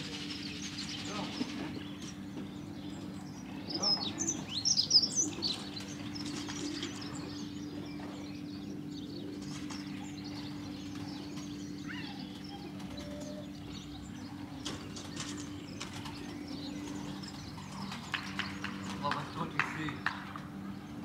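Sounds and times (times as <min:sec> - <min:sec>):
birds chirping: 0:00.0 - 0:21.0
steady low hum: 0:00.0 - 0:21.0.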